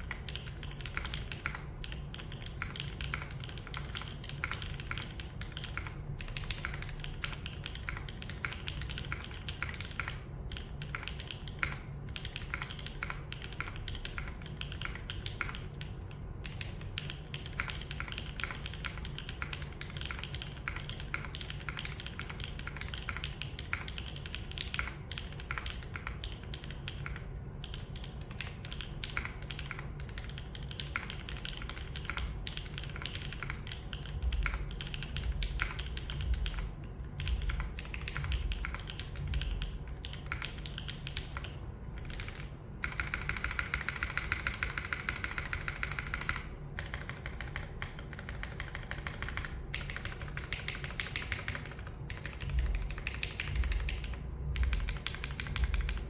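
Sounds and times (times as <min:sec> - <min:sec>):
fast typing on mechanical keyboard: 0:00.0 - 0:56.0.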